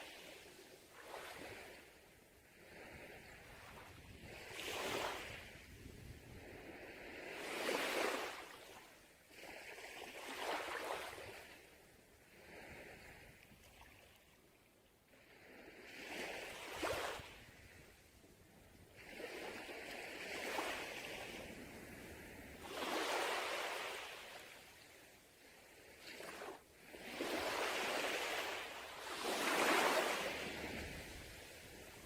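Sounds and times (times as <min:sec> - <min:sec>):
sea waves breaking on beach: 0:00.0 - 0:11.6, 0:15.2 - 0:18.0, 0:19.0 - 0:32.0.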